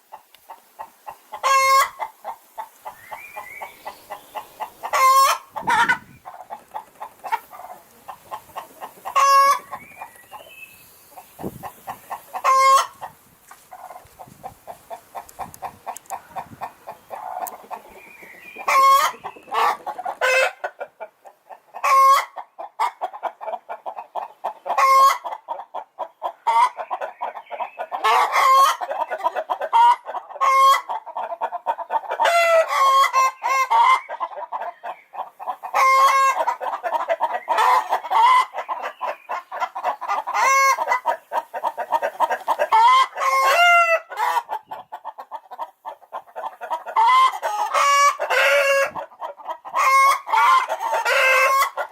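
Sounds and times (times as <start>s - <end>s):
chickens clucking: 0.0s - 51.9s
chickens squawking: 0.0s - 51.9s.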